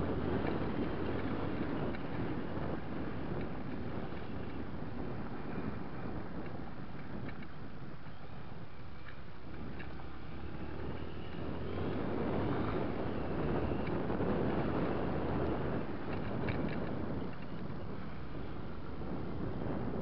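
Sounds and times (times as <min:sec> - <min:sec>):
motorcycle engine humming: 0:00.0 - 0:20.0
wind noise on microphone: 0:00.0 - 0:20.0.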